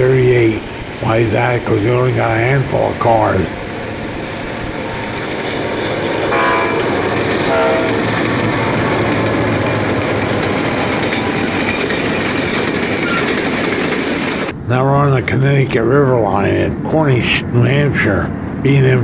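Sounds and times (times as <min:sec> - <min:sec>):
train wheels clicking over rail joints: 0:00.0 - 0:16.1
diesel freight train rolling past: 0:00.0 - 0:19.0.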